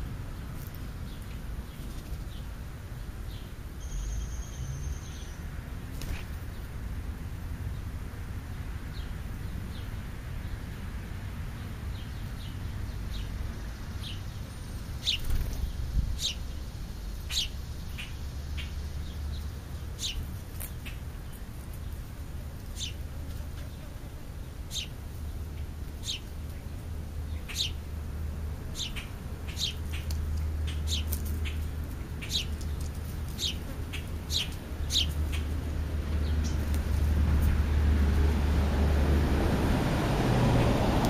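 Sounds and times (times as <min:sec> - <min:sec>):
small birds chirping: 0:00.0 - 0:06.8, 0:07.7 - 0:37.6.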